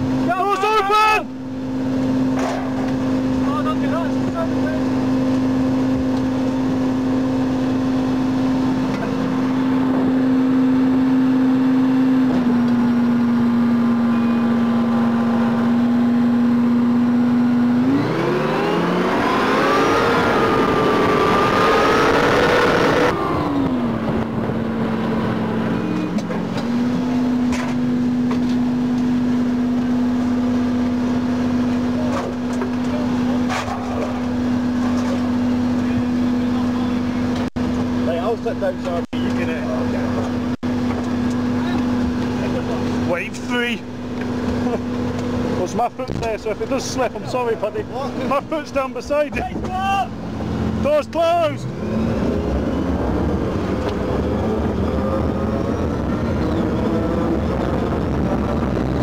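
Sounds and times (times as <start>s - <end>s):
armoured vehicle engine running: 0.0s - 59.0s.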